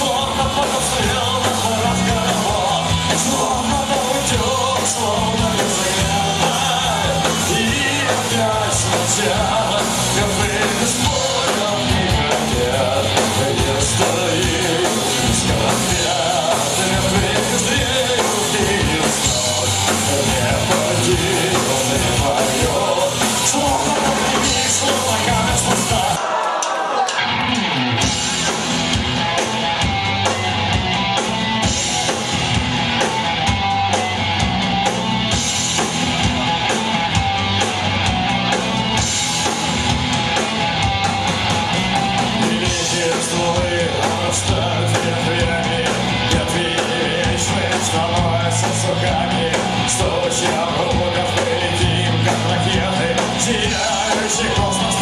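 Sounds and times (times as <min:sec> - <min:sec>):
bass guitar: 0:00.0 - 0:26.2, 0:27.2 - 0:55.0
distorted electric guitars: 0:00.0 - 0:55.0
drums with crashing cymbals: 0:00.0 - 0:55.0.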